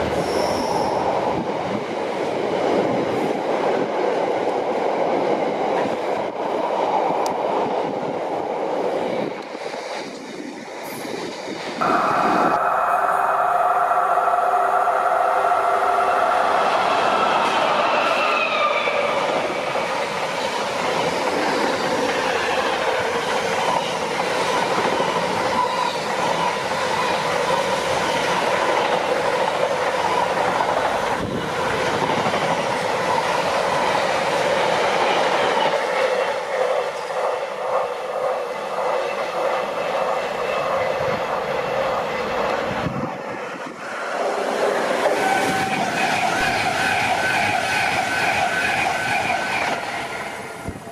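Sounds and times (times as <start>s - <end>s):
rhythmic clatter over rail joints: 0.0s - 50.9s
train wheels whining: 0.0s - 50.9s.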